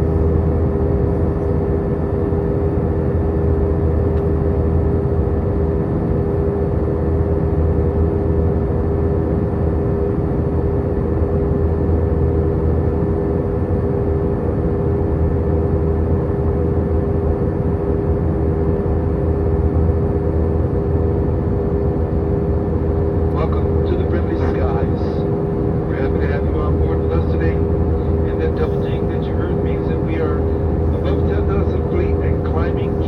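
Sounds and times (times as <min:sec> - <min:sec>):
airliner cabin drone: 0:00.0 - 0:33.0.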